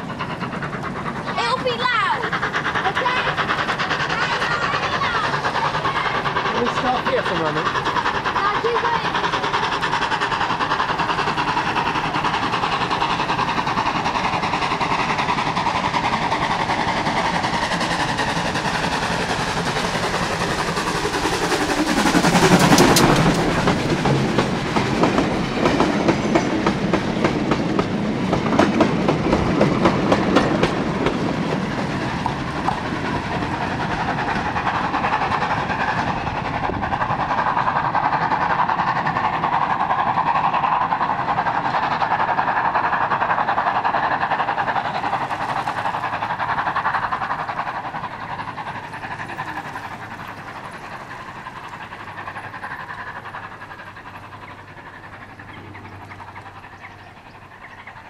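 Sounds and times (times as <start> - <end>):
steam train passing: 0.0 - 58.0
wagon wheels clickety-clack: 0.0 - 58.0.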